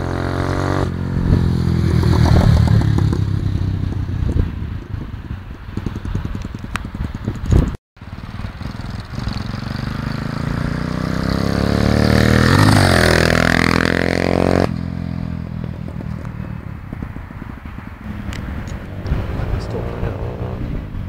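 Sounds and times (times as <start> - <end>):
motorcycle passing by: 0.0 - 21.0.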